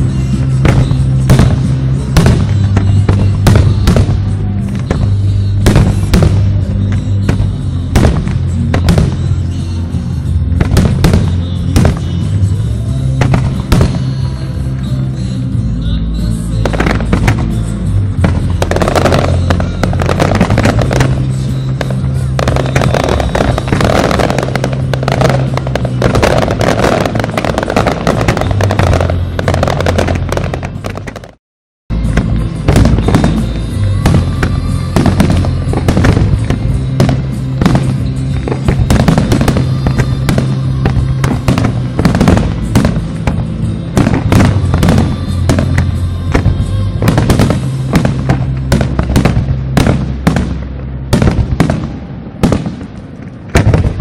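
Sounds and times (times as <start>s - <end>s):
loud music with bass: 0.0s - 51.8s
fireworks bursting and crackling: 0.0s - 54.0s.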